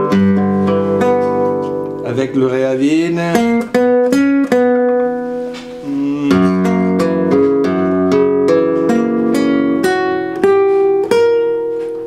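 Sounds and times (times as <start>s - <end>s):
flamenco guitar playing: 0.0s - 12.0s.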